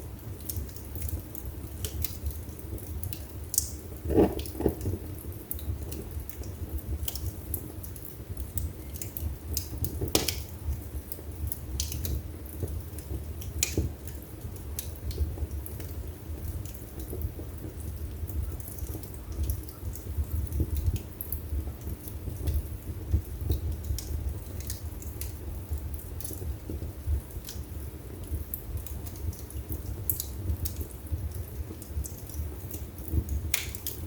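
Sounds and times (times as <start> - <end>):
fire rumbling and crackling: 0.0 - 34.0
loud fire pops: 0.2 - 34.0.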